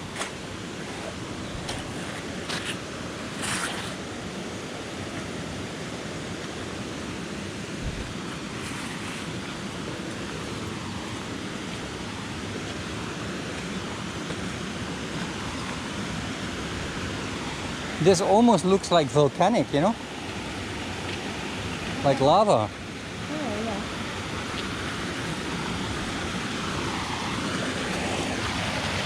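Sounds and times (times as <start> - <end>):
waterfall rushing: 4.0 - 29.0.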